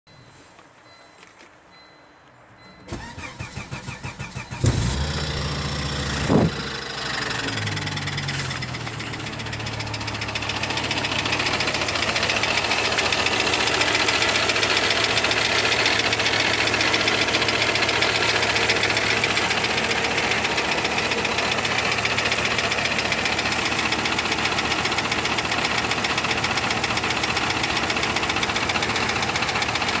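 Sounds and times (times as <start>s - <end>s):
starter motor cranking: 2.9s - 30.0s
car engine idling with knocking: 4.6s - 30.0s.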